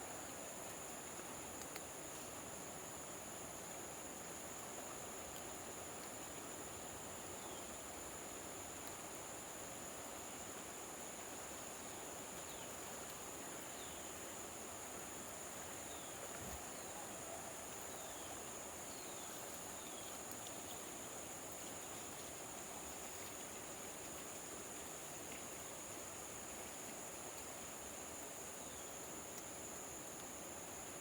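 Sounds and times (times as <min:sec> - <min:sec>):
insects trilling: 0:00.2 - 0:31.0.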